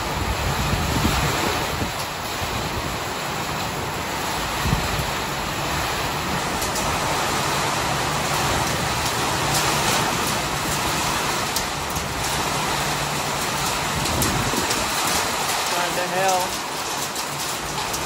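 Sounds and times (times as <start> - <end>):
heavy rain: 0.0 - 18.0
wind buffeting microphone: 0.0 - 18.0.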